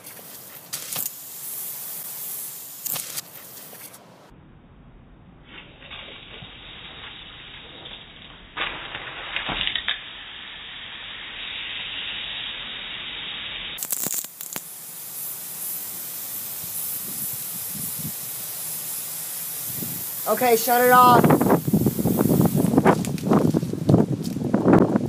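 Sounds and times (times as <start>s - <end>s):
loud sprinkler sputters: 0.0s - 3.9s, 5.7s - 25.0s
sprinkler spray hiss: 0.0s - 4.0s, 5.5s - 24.8s.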